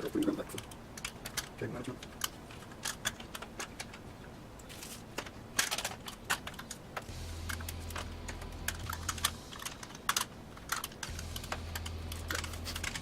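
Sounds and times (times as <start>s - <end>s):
hands clicking and tapping parts: 0.0s - 13.0s
low steady hum: 0.0s - 13.0s.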